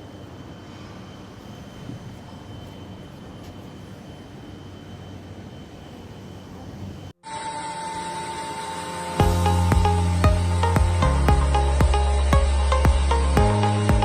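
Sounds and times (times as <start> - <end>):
faint high whine: 0.0 - 14.0
steady machine hum: 0.0 - 14.0.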